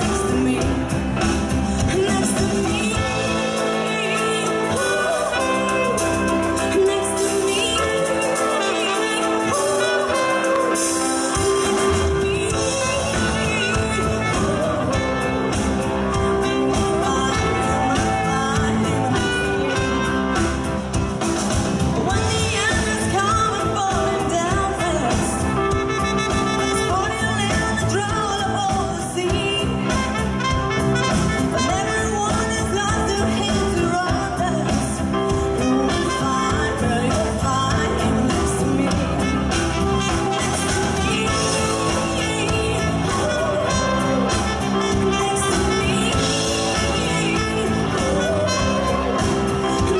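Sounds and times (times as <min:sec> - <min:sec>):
live band playing: 0:00.0 - 0:49.9
trumpet: 0:00.0 - 0:49.9
woman singing: 0:00.0 - 0:49.9.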